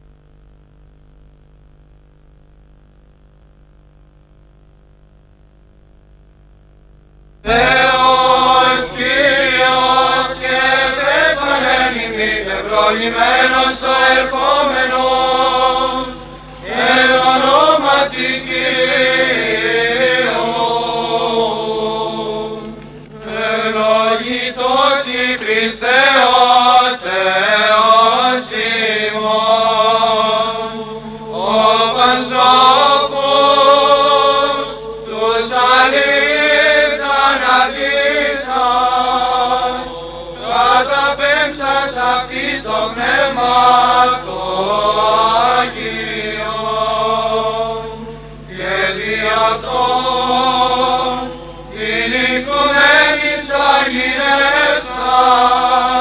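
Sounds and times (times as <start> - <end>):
faint steady hum: 0.0 - 56.0
voices singing a chant: 7.4 - 56.0.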